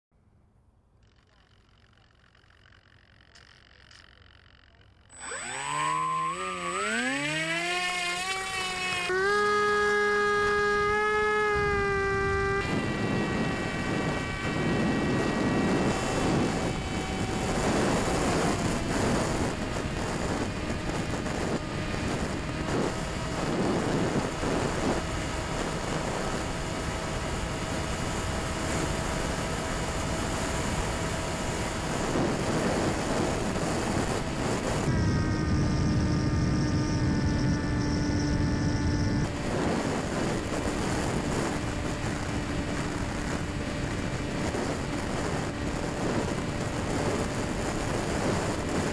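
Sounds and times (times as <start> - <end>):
electric motor and propeller whining: 0.2 - 48.9
wind rushing over microphone: 5.2 - 48.9.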